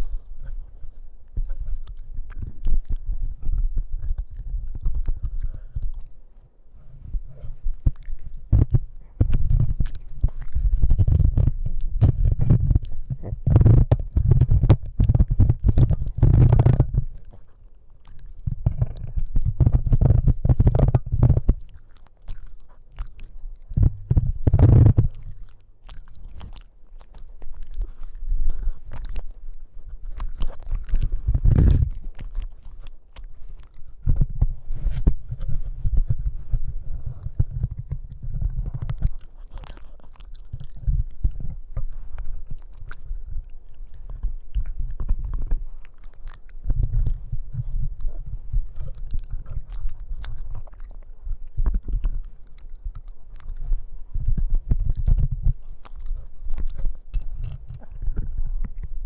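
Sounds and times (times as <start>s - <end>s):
teeth clicking: 0.0s - 6.2s, 7.7s - 59.0s
puppy chewing on microphone: 0.0s - 59.0s.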